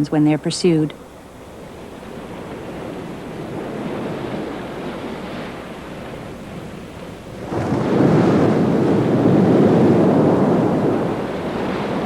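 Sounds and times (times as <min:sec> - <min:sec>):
sea water surging: 0:00.0 - 0:12.0.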